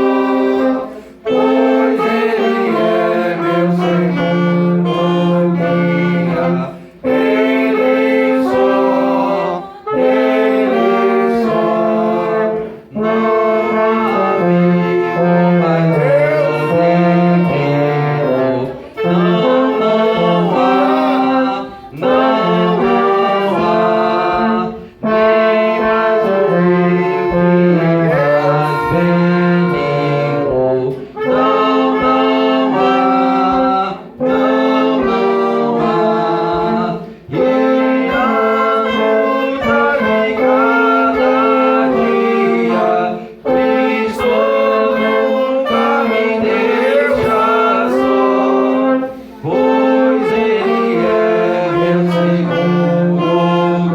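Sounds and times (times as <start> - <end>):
wind band playing a hymn: 0.0 - 53.9.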